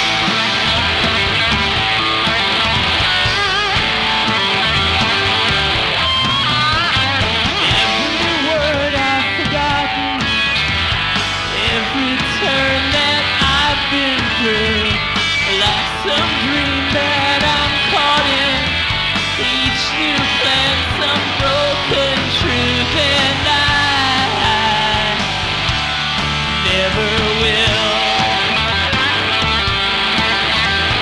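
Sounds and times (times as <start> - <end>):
electric guitar with bent notes: 0.0 - 31.0
rock band playing live: 0.0 - 31.0.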